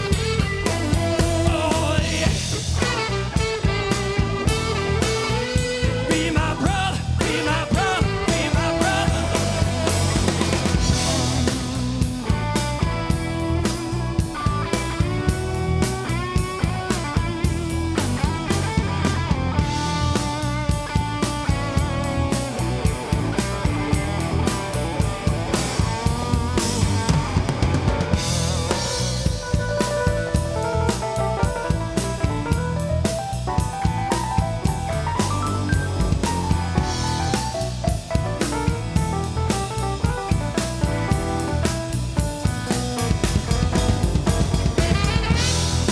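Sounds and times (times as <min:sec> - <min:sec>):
drum kit beat: 0:00.0 - 0:45.9
rock band playing: 0:00.0 - 0:45.9.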